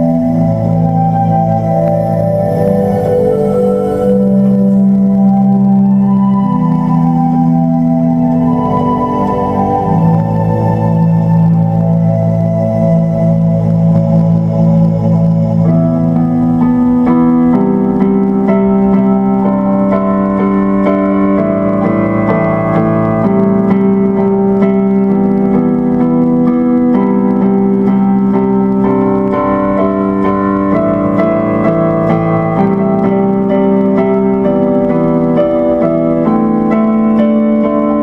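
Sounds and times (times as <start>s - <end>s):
keyboard chords: 0.0s - 38.0s.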